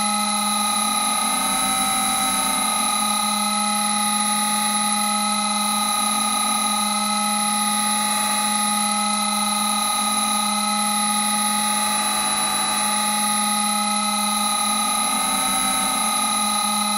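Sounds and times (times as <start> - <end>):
electronic drone of held tones: 0.0 - 16.9.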